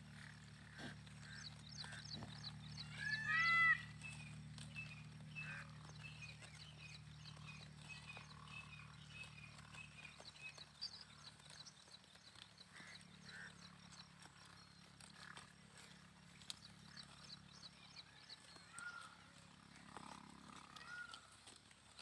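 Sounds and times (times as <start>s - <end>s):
low steady hum: 0.0s - 22.0s
sheep cropping grass: 0.0s - 22.0s
small birds chirping: 0.0s - 22.0s.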